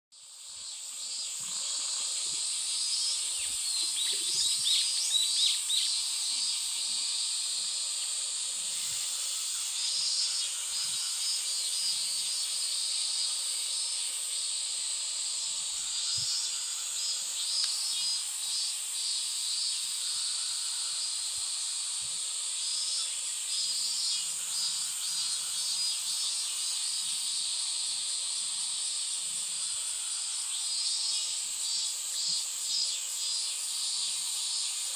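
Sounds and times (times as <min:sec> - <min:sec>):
high-pitched insect drone: 0:00.2 - 0:34.9
rapid insect chirping: 0:00.2 - 0:34.9.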